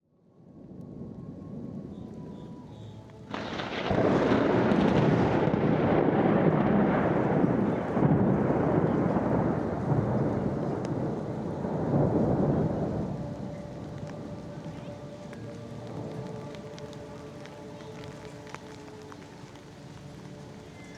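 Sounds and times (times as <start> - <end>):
thunder crack and rumble: 0.4 - 20.9.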